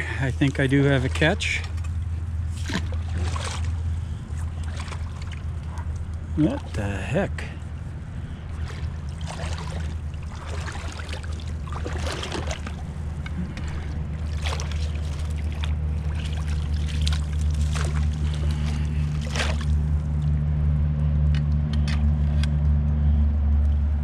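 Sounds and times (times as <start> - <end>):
water splashing and sloshing: 0.0 - 20.6
low motor hum: 0.0 - 24.0.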